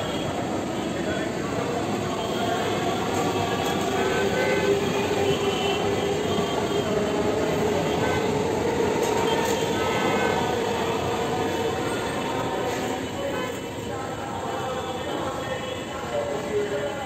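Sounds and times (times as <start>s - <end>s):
electric train rumbling along track: 0.0s - 17.0s.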